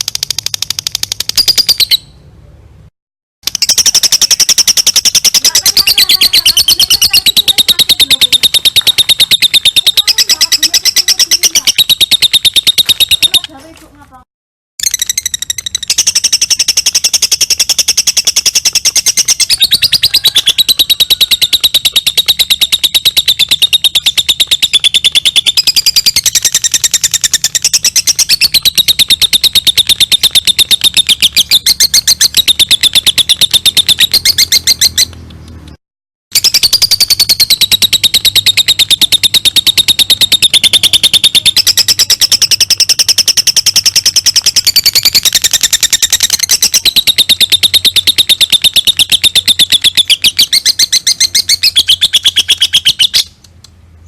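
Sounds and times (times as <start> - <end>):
lovebird chattering trill: 0.0 - 2.2, 3.4 - 13.7, 14.8 - 35.2, 36.3 - 53.5.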